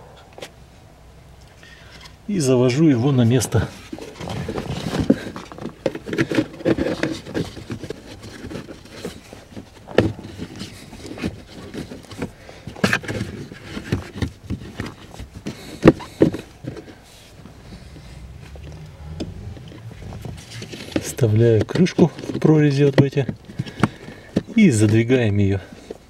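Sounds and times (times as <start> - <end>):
filter scraping and rustling: 3.4 - 25.0.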